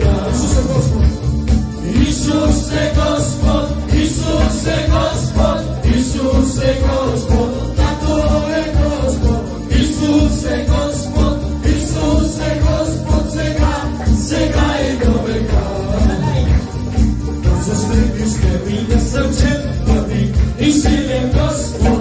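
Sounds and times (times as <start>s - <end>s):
keyboard playing chords: 0.0s - 22.0s
man singing: 0.0s - 22.0s
steady drum beat: 0.0s - 22.0s.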